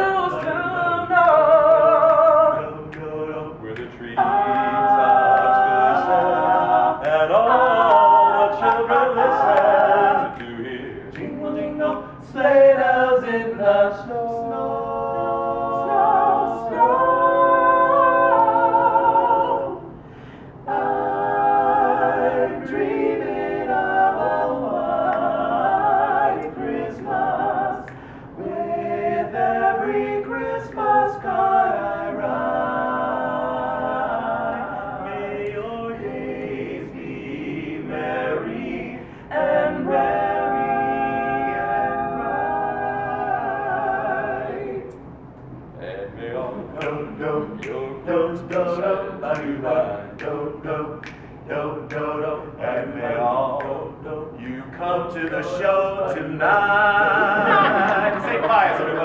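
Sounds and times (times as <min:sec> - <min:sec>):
vocal group singing a cappella: 0:00.0 - 0:59.0.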